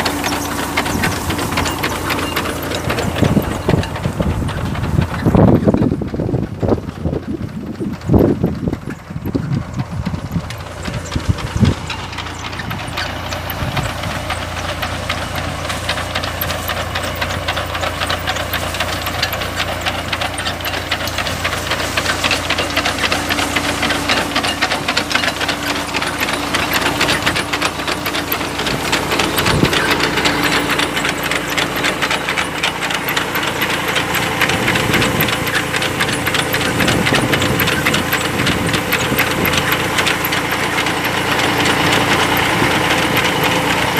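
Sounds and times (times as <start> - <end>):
mechanical clatter: 0.0 - 43.9
tractor engine running: 0.0 - 43.9.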